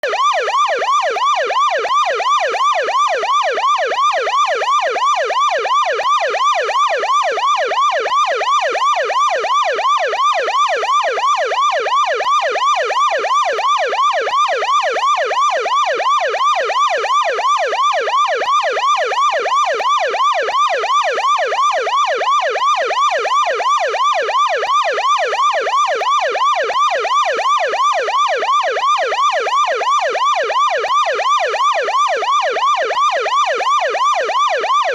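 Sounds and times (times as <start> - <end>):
police siren yelping: 0.0 - 34.9.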